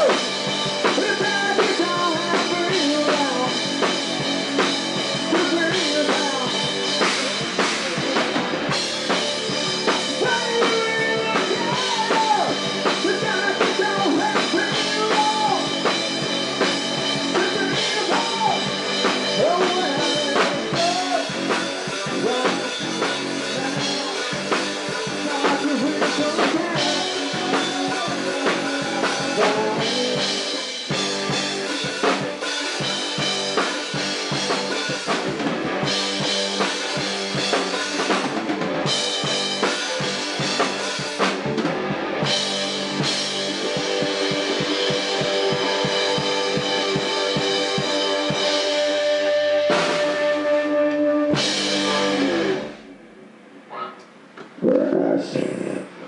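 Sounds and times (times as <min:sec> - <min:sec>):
rock band playing live: 0:00.0 - 0:53.3
electric guitar lead line: 0:00.0 - 0:54.1.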